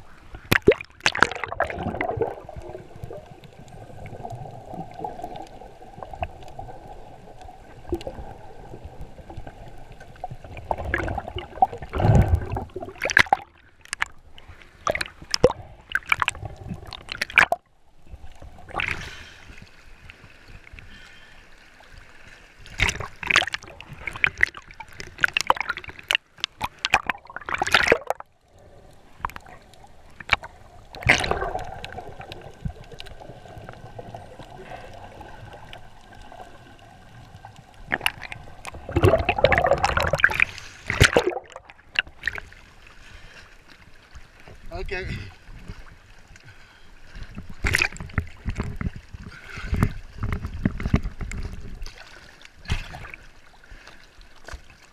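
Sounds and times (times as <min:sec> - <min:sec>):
muffled underwater water sounds: 0:00.0 - 0:54.9
splashing and bubbling: 0:00.0 - 0:54.9.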